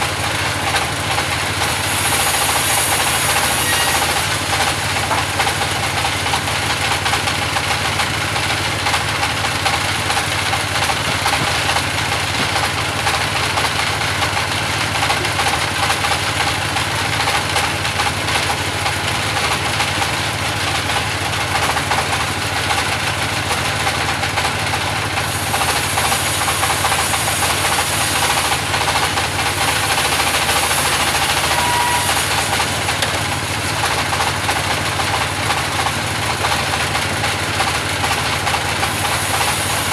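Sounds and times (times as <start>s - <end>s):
band sawmill sawing timber: 0.0s - 39.9s.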